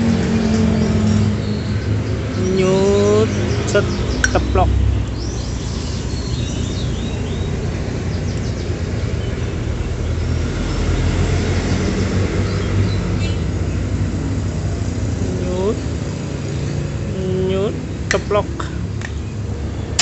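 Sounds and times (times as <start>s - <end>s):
low rumble of vehicle engines: 0.0s - 20.0s.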